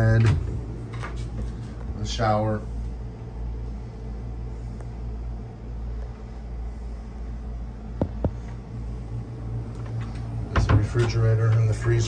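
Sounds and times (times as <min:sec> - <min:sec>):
air conditioning hum: 0:00.0 - 0:12.0.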